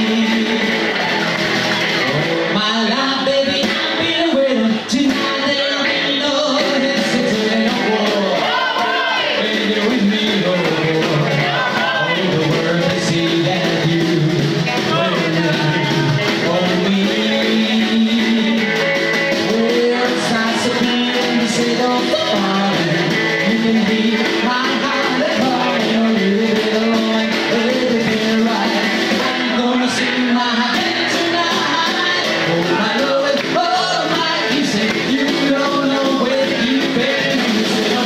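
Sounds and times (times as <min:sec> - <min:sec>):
man singing: 0:00.0 - 0:01.3, 0:02.0 - 0:38.0
electric guitar: 0:00.0 - 0:38.0
snare drum: 0:06.0 - 0:38.0.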